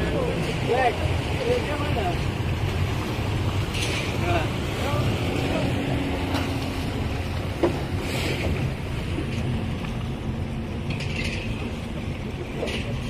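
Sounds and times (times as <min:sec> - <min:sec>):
outboard motors droning: 0:00.0 - 0:13.0
water rushing past hull: 0:00.0 - 0:13.0.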